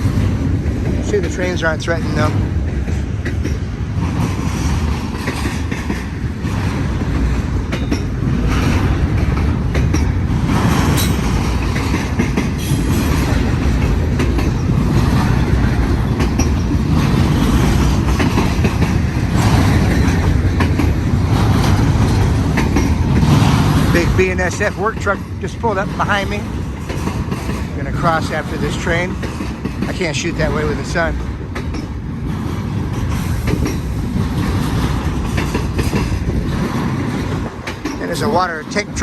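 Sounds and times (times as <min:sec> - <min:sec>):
rail joint clicks and rattles: 0:00.0 - 0:39.0
train wheels rumbling on rail: 0:00.0 - 0:39.0.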